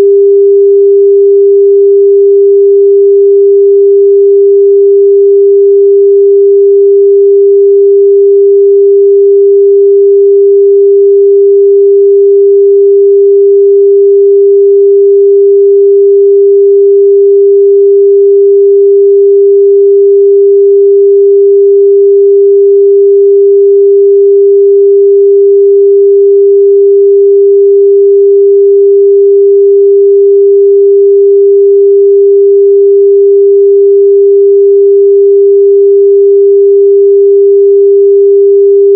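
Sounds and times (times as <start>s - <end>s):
electronic pure tone: 0.0s - 38.9s.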